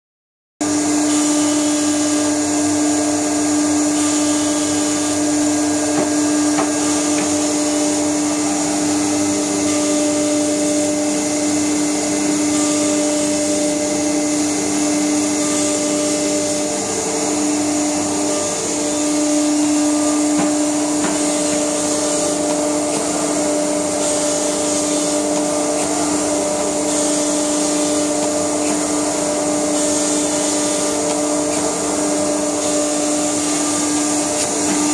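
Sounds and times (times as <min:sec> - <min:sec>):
machine hum with low drone: 0:00.6 - 0:34.9.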